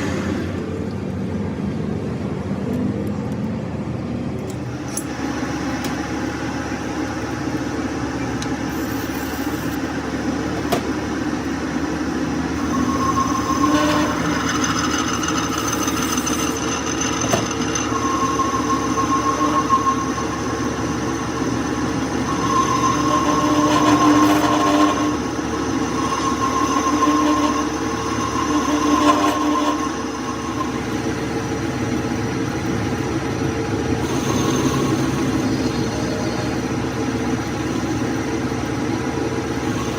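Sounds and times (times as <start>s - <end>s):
lathe squealing: 0.0s - 0.8s, 4.6s - 39.9s
metal lathe running: 0.0s - 2.2s, 4.4s - 39.9s.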